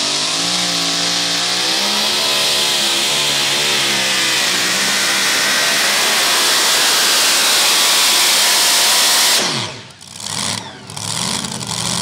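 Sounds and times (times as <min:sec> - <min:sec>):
truck engine screaming at full throttle: 0:00.0 - 0:12.0.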